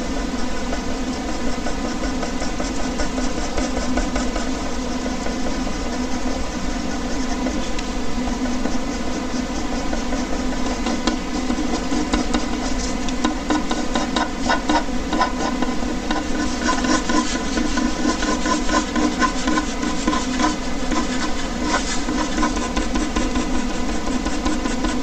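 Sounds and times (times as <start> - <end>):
air conditioner hum: 0.0 - 25.0
pen scratching on paper: 0.1 - 25.0.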